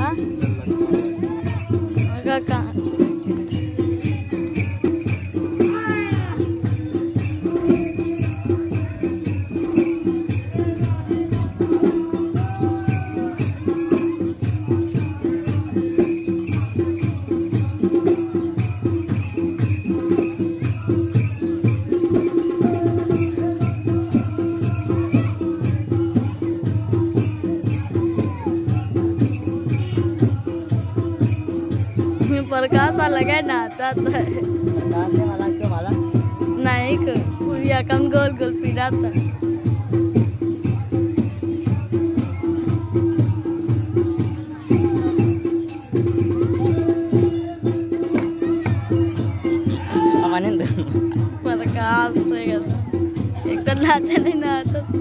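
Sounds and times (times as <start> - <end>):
rhythmic folk percussion: 0.0 - 55.0.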